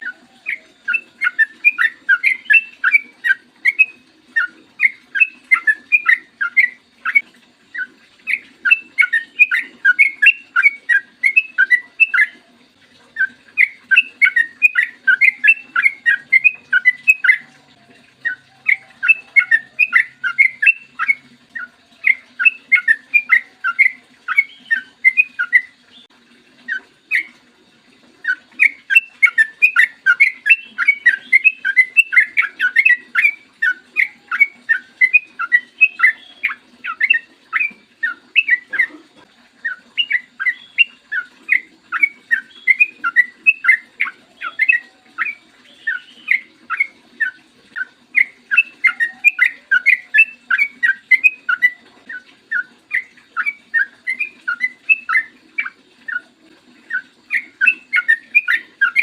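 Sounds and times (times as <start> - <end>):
bird singing whistled notes: 0.0 - 12.4, 13.2 - 26.1, 26.7 - 27.3, 28.2 - 38.9, 39.6 - 56.3, 56.9 - 59.0.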